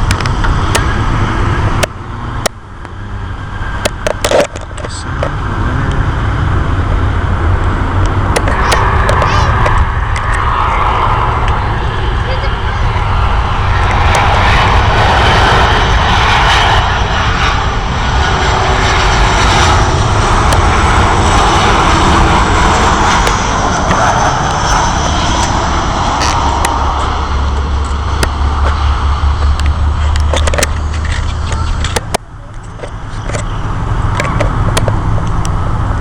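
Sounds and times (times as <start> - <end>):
airliner engines roaring overhead: 0.0 - 36.0.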